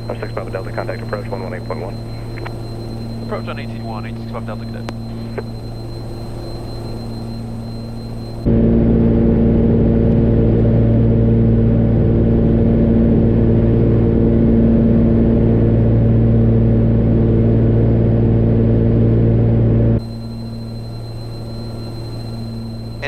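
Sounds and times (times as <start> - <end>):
aircraft engines droning in cabin: 0.0 - 23.0.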